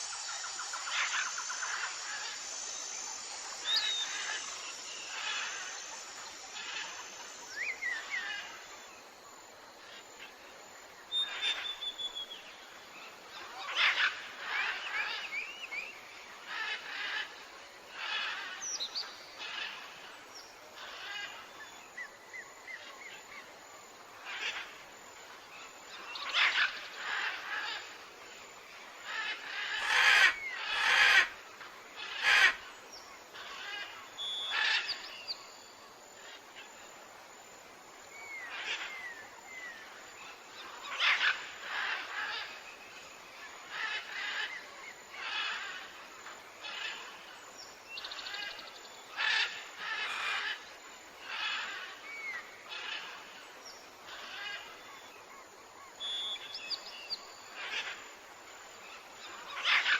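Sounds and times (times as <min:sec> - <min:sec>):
faint outdoor hiss: 0:00.0 - 0:59.9.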